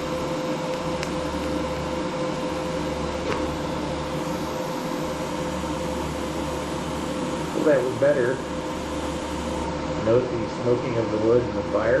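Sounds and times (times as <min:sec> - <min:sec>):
welder humming and hissing: 0:00.0 - 0:12.0.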